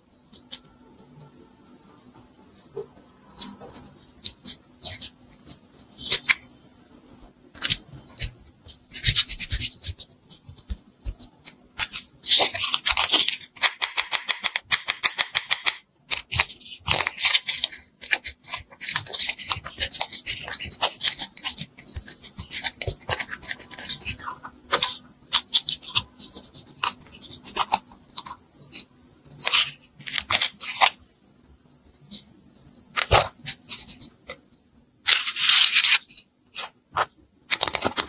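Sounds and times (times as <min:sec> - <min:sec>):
modelling dough squishing: 0:00.0 - 0:38.0.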